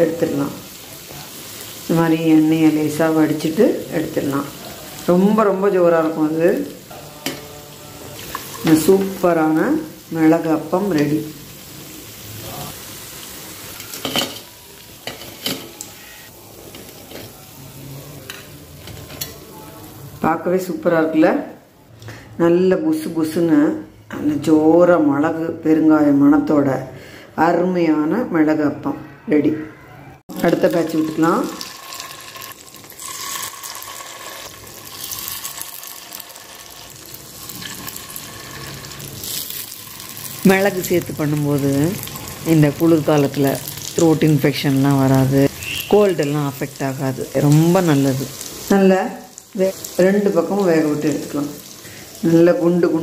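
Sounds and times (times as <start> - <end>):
hot oil sizzling in a pan: 0.0 - 20.8, 30.3 - 53.0.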